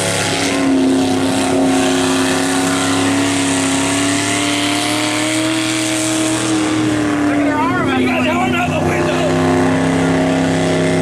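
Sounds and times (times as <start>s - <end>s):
truck engine revving high: 0.0s - 11.0s.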